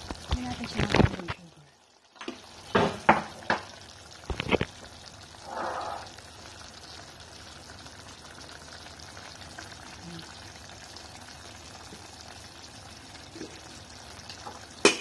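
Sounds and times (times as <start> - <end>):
sauce simmering with low sizzle: 0.0 - 15.0.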